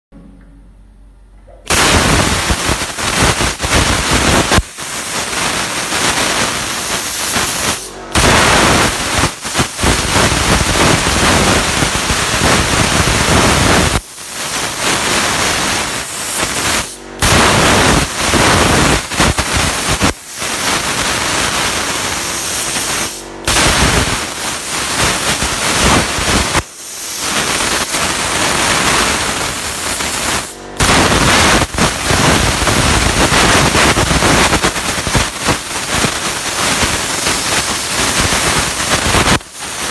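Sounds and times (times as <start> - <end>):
plasma torch hissing: 1.7 - 39.9.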